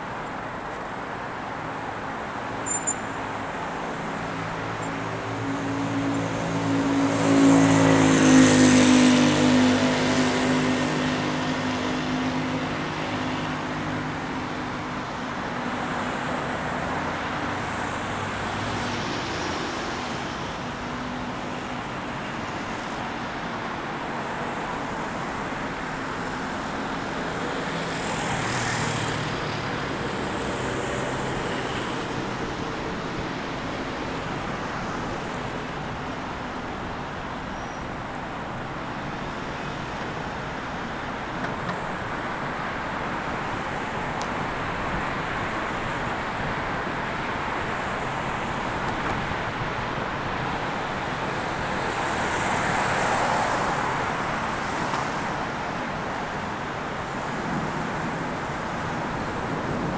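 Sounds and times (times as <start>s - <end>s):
traffic and tyre noise: 0.0s - 59.9s.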